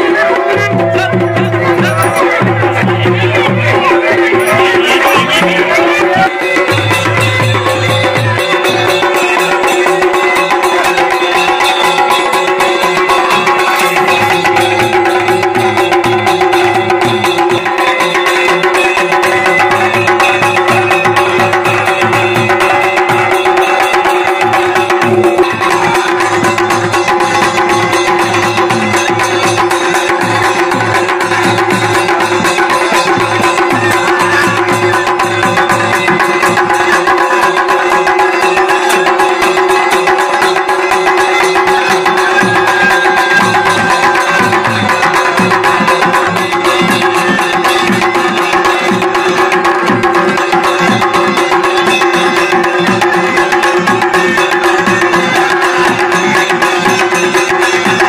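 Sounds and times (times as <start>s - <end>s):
drums beating fast rhythm: 0.0s - 58.0s.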